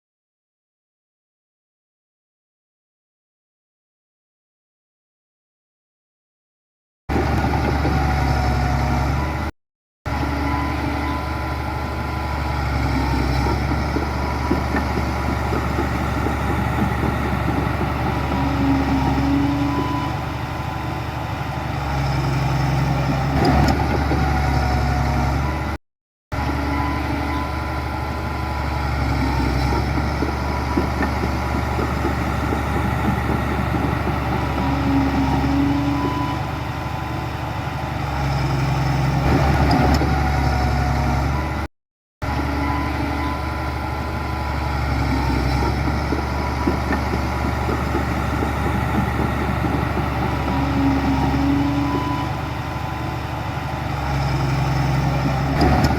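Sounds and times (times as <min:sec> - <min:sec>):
heavy machinery diesel engines: 0:07.1 - 0:09.5, 0:10.1 - 0:55.9.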